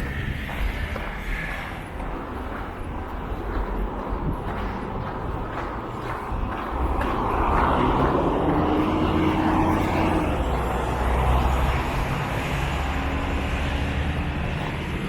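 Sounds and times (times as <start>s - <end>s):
city traffic: 0.0s - 15.0s
loud engine rumble: 0.0s - 15.0s.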